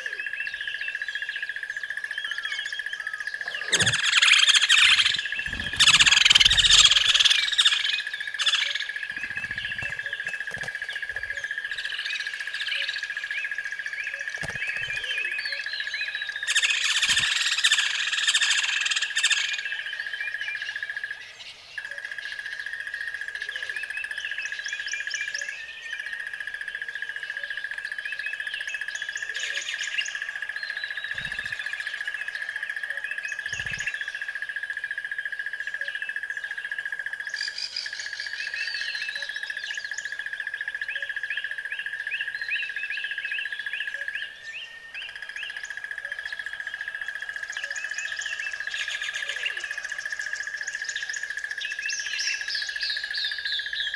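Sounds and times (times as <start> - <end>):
birds chirping and singing: 0.0 - 34.3, 37.1 - 53.9.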